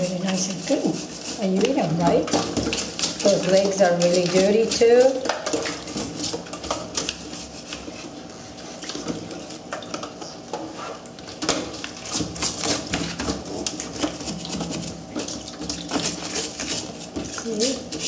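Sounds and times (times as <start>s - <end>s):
brush scraping crab shell: 0.0s - 8.8s, 11.7s - 18.0s.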